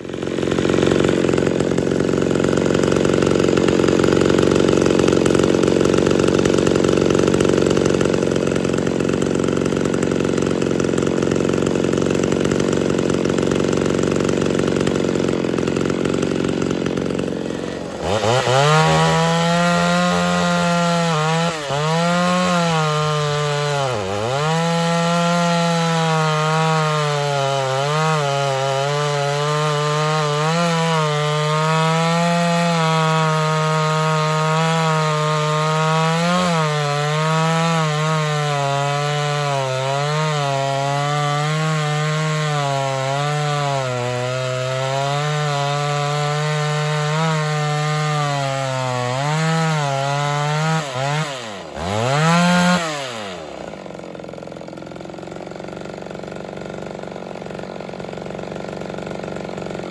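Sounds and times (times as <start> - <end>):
chainsaw running: 0.0 - 59.9
chainsaw sawing through log: 0.0 - 59.9.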